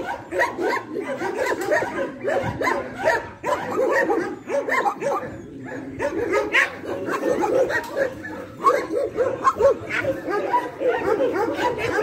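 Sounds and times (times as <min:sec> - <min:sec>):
dogs whining and yipping: 0:00.0 - 0:12.0.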